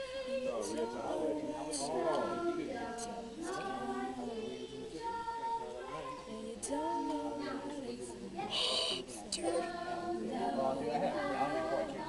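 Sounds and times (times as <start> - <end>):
young female voices singing: 0.0 - 12.0.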